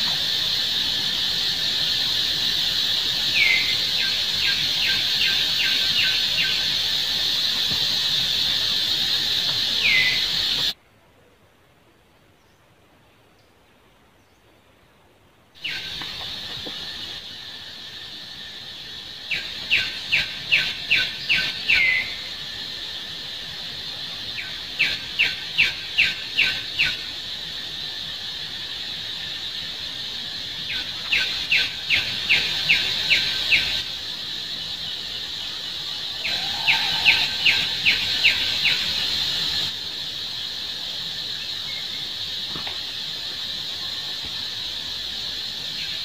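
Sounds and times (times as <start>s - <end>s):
high insect drone: 0.0s - 10.8s, 15.6s - 46.0s.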